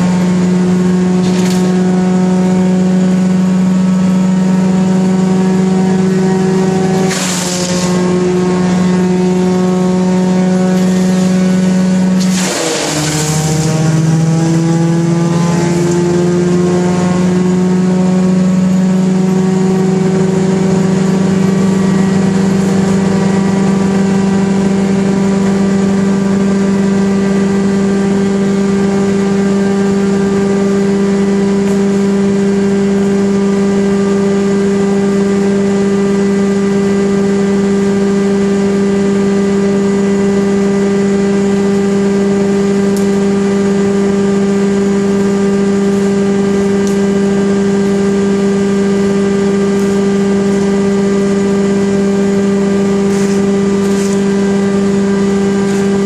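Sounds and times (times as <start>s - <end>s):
wood chipper humming: 0.0s - 56.0s.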